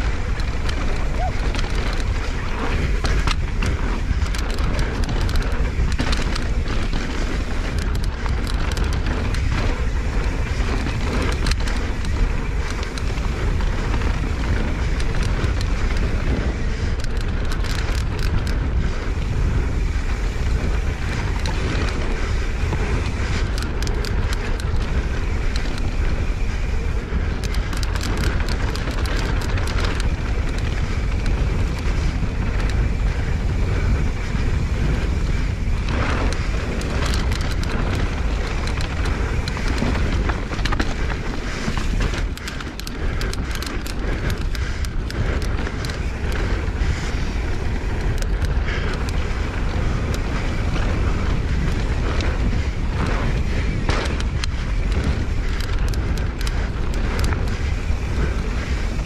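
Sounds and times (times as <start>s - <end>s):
bike rattling and clicking: 0.0s - 59.0s
bike tyres on dirt: 0.0s - 59.0s
wind noise on microphone: 0.0s - 59.0s.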